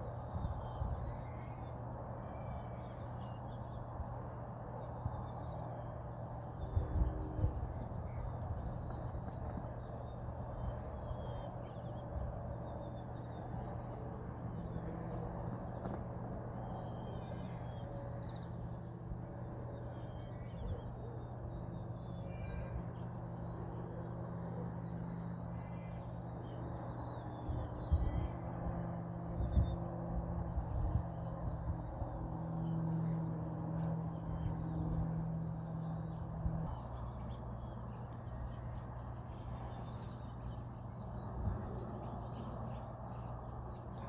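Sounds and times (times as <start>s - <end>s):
small birds chirping: 0.0s - 44.0s
steady low hum: 0.0s - 44.0s.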